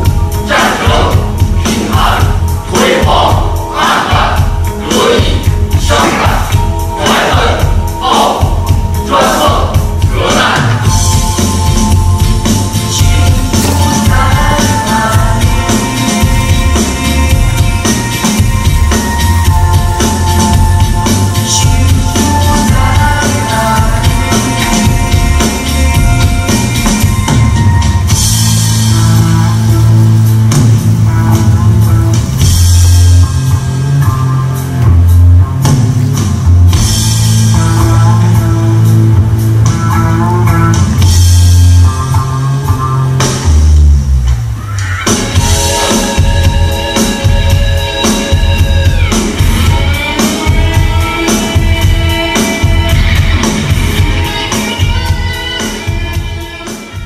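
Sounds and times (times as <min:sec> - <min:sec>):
heavy bass notes: 0:00.0 - 0:57.0
rock music: 0:00.0 - 0:57.0.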